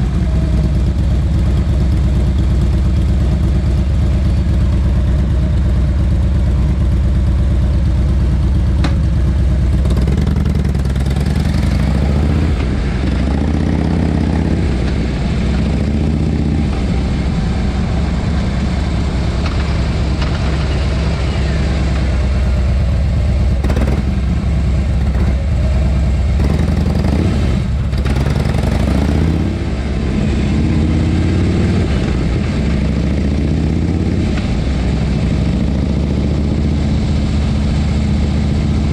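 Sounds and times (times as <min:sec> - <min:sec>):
motorcycle exhaust revving: 0:00.0 - 0:38.9.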